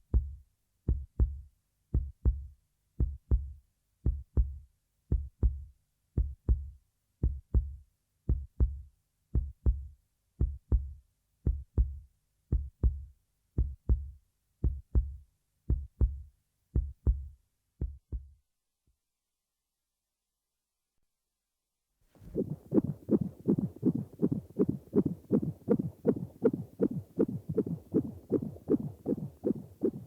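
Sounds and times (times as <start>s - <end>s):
heartbeat thumps: 0.0s - 18.4s, 22.2s - 30.0s.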